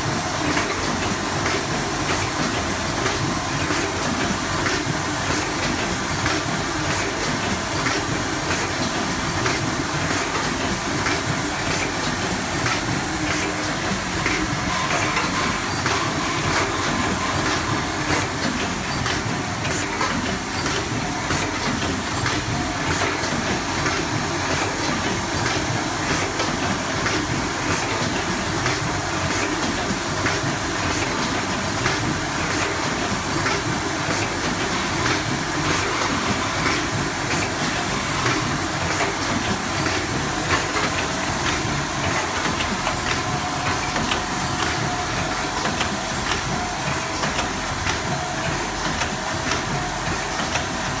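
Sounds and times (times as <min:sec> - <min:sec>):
constant machine hiss: 0:00.0 - 0:51.0.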